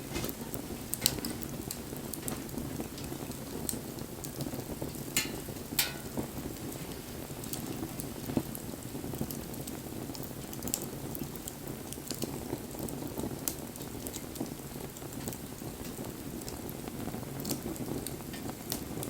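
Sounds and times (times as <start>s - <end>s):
bonfire flames burning: 0.0s - 19.0s
burning wood crackling and popping: 0.0s - 19.0s.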